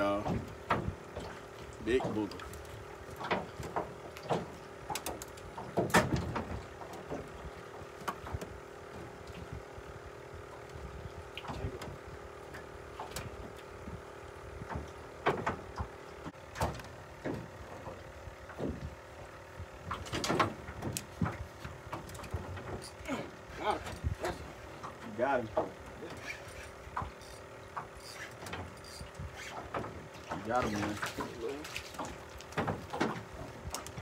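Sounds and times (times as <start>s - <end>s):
fishing gear knocking in a boat: 0.0s - 9.7s, 11.3s - 34.0s
faint steady hum: 0.0s - 34.0s.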